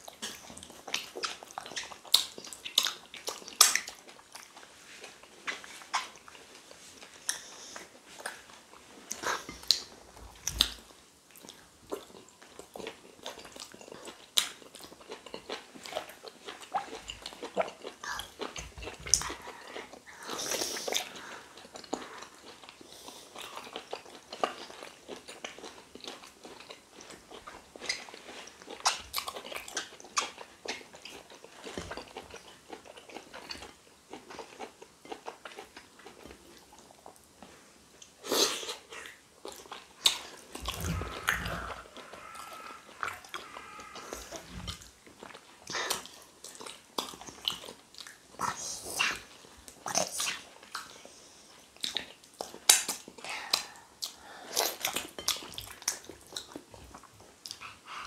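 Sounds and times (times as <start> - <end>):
wet chewing: 0.0 - 37.2, 38.0 - 51.0, 51.7 - 58.0.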